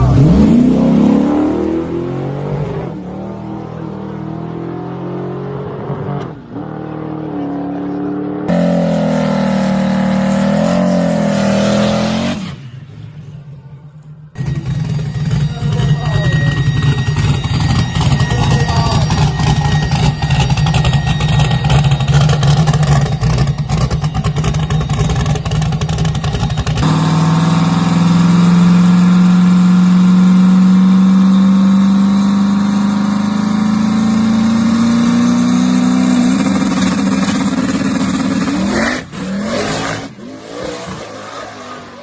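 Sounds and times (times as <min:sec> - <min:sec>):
drag racing car engine: 0:00.0 - 0:42.0.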